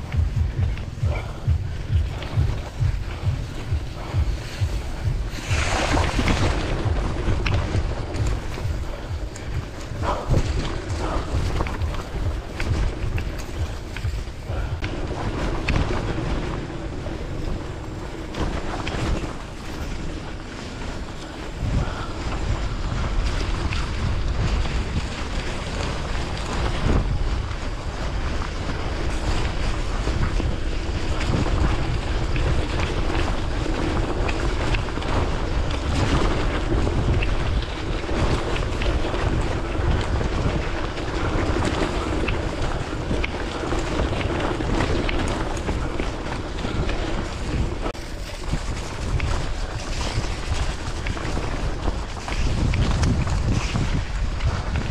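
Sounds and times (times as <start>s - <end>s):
bike tyres crunching on gravel: 0.0s - 54.9s
wind buffeting microphone: 0.0s - 54.9s.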